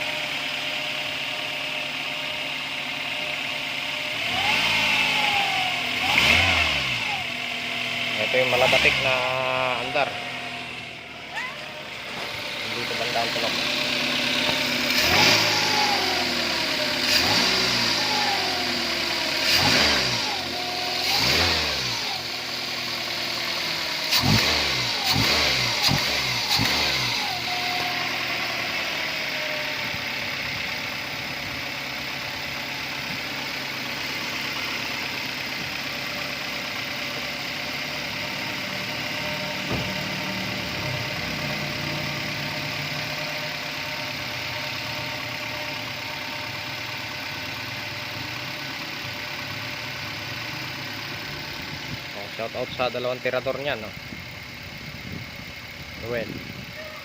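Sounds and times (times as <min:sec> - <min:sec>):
car engine revving: 0:00.0 - 0:56.4
car engine idling: 0:00.0 - 0:57.0.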